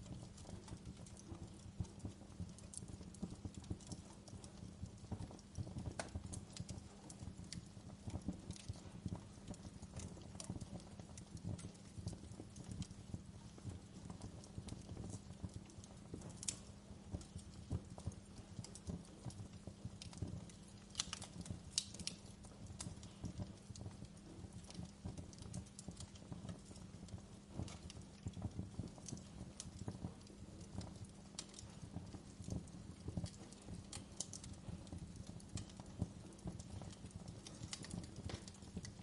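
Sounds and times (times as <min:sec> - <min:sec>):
fire popping: 0:00.0 - 0:39.0
wood fire crackling: 0:00.0 - 0:39.0.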